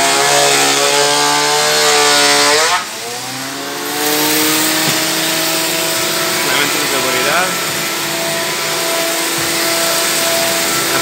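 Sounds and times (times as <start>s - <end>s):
machine motor whining hum: 0.2s - 11.0s.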